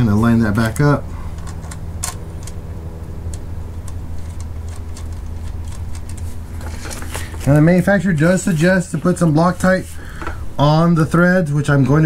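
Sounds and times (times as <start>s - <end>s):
vehicle engine idling: 0.0s - 11.2s.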